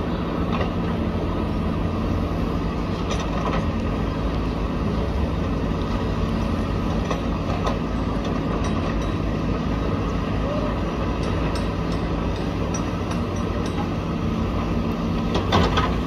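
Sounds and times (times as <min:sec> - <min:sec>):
diesel engines rumbling: 0:00.0 - 0:16.0.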